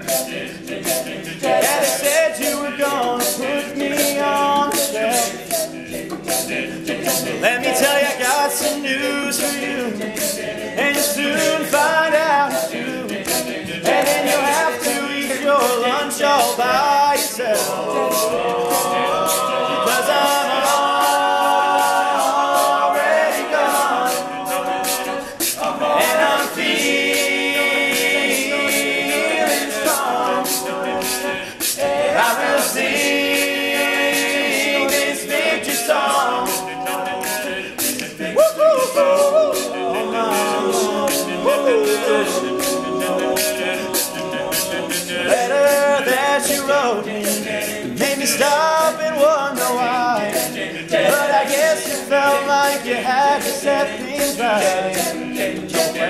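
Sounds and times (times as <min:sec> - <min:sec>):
men singing harmony: 0:00.0 - 0:56.0
vocal percussion beat: 0:00.0 - 0:56.0.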